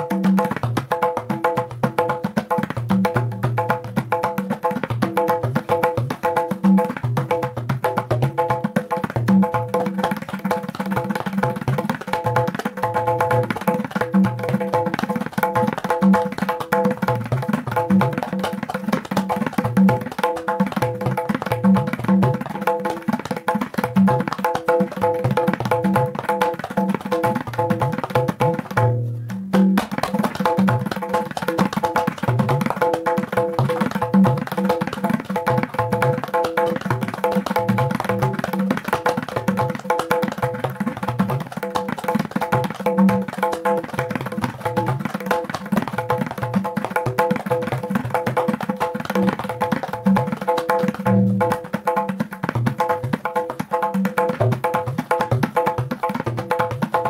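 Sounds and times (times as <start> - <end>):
tabla drumming: 0.0 - 57.0.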